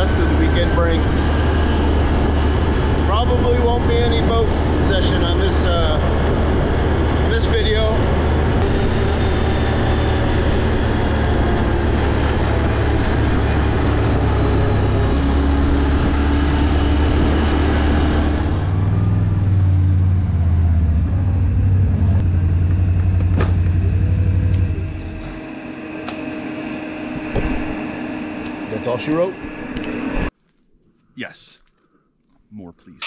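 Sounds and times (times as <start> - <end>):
atv engine running: 0.0 - 30.3
wind: 0.0 - 33.0.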